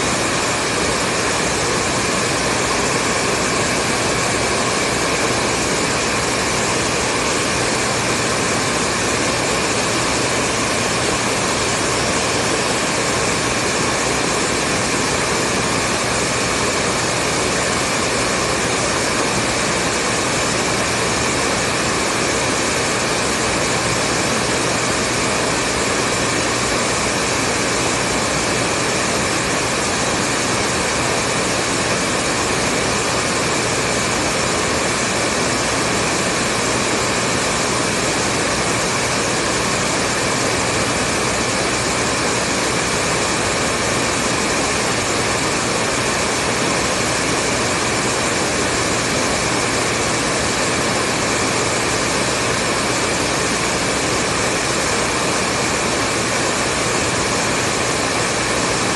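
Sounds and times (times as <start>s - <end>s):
hair dryer blowing: 0.0s - 58.9s.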